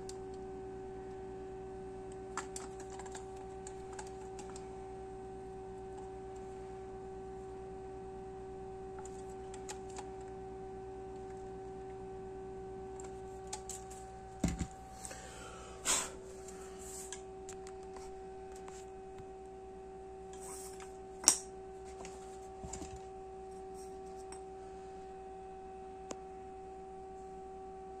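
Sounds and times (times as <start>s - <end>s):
steady humming tone: 0.0s - 28.0s.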